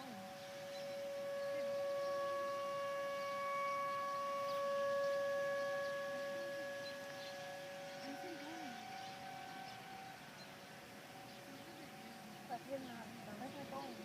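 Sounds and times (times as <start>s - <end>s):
distant warning sirens: 0.0s - 14.0s.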